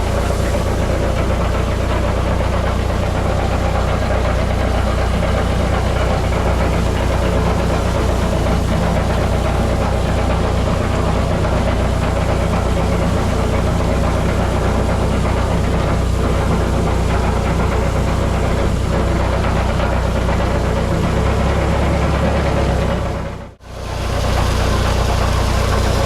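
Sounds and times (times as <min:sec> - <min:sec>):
tractor engine hum: 0:00.0 - 0:26.0.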